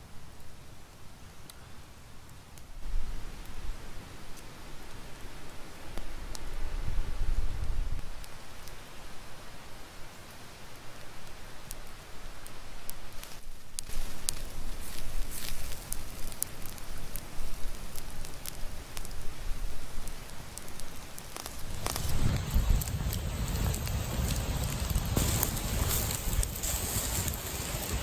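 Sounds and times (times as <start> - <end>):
steady fire hiss: 0.0 - 28.0
campfire crackling and popping: 0.3 - 28.0.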